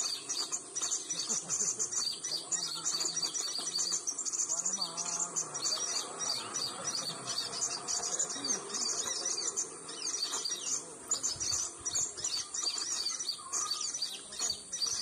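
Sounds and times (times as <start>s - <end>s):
insects buzzing: 0.0s - 15.0s
small birds chirping: 0.0s - 15.0s.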